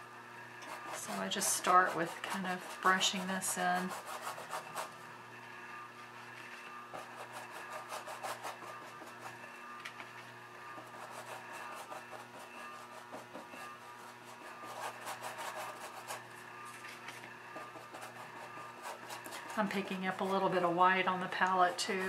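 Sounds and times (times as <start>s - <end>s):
steady low hum: 0.0s - 22.0s
paintbrush scratching on canvas: 0.6s - 5.0s, 6.2s - 9.5s, 10.6s - 22.0s.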